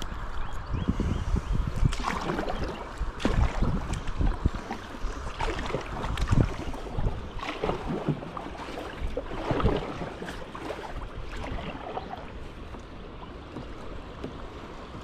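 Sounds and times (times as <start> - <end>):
water splashing around kayak: 1.0 - 15.0.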